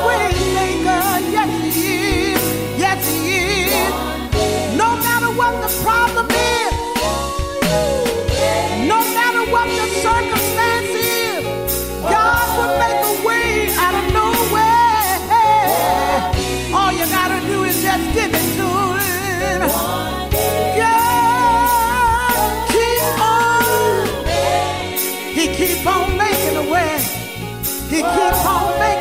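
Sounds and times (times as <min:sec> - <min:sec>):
band with steady drum beat: 0:00.0 - 0:29.0.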